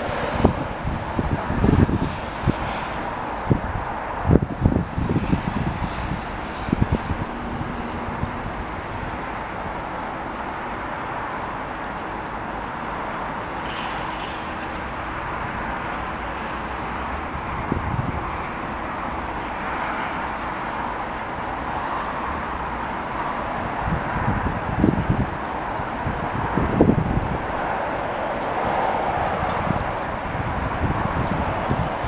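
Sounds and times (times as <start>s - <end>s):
outdoor rumble and hiss: 0.0s - 32.0s
wind buffeting microphone: 0.0s - 32.0s.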